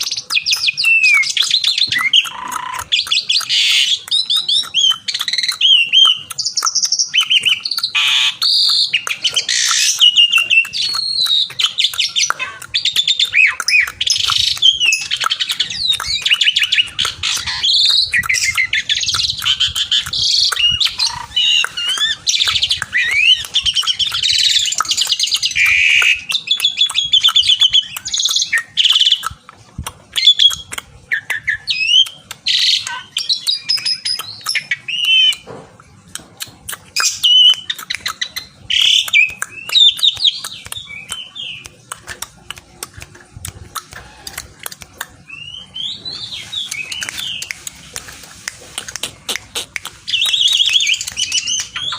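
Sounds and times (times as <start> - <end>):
starling singing: 0.0 - 35.5, 36.4 - 51.9.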